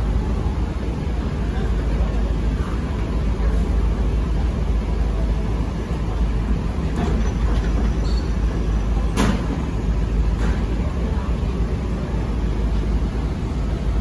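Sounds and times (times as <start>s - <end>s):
ferry engine rumble: 0.0s - 14.0s.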